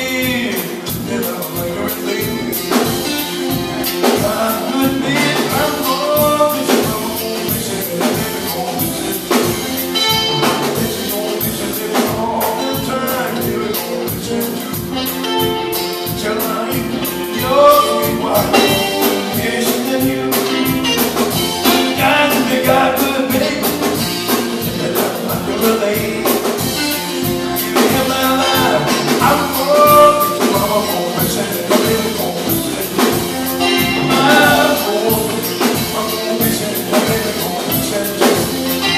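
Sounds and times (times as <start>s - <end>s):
drum kit beat: 0.0s - 38.9s
electric bass: 0.0s - 38.9s
guitar: 0.0s - 38.9s.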